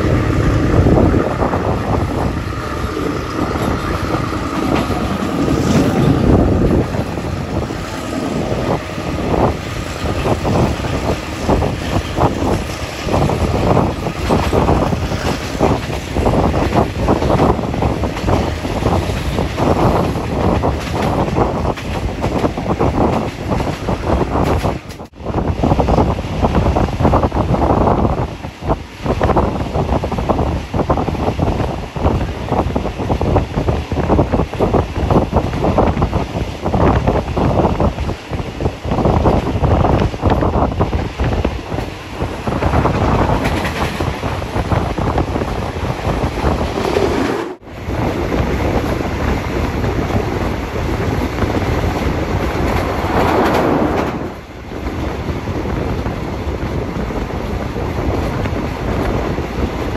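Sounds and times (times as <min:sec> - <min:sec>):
train running on track: 0:00.0 - 0:59.9
wind buffeting microphone: 0:00.0 - 0:59.9.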